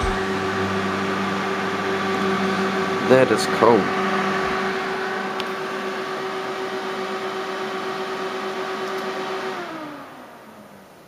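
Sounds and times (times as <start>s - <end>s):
radiator fans running loud: 0.0s - 11.0s.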